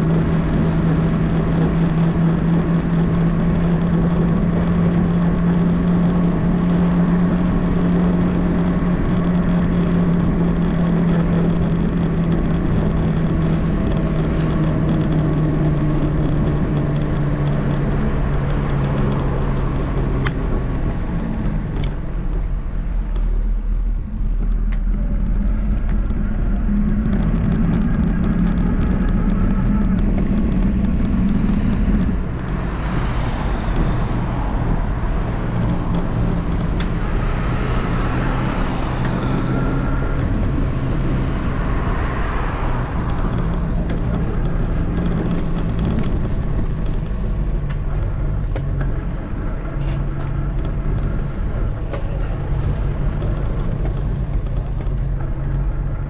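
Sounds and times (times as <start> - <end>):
engine humming: 0.0 - 56.0
road and traffic noise: 0.0 - 56.0.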